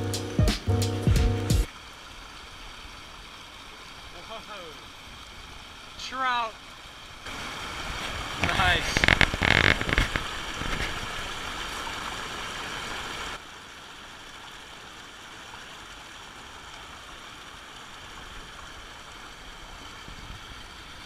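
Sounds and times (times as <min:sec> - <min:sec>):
stream babbling: 0:01.6 - 0:21.0.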